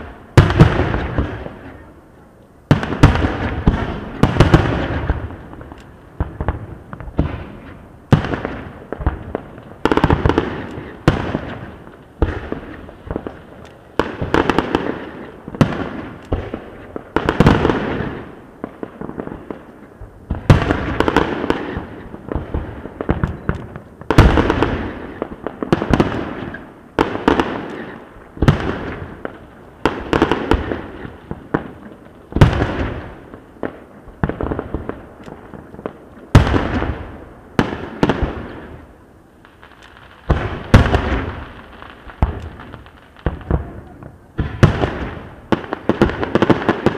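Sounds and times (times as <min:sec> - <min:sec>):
firework crackles: 0:00.0 - 0:46.9.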